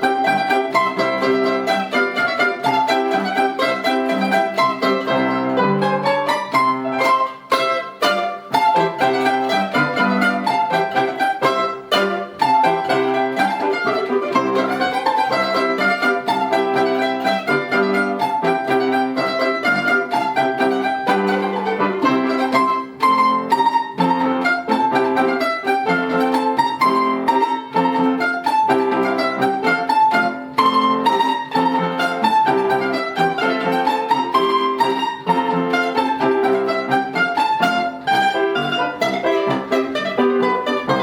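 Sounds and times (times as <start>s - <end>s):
plucked mandolin folk music: 0.0s - 41.0s.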